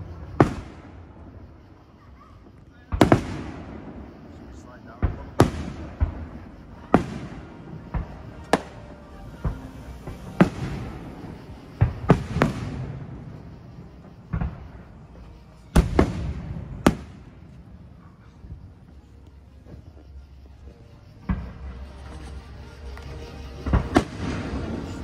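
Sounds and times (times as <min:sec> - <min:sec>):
fireworks booming: 0:00.0 - 0:19.8, 0:21.2 - 0:25.0.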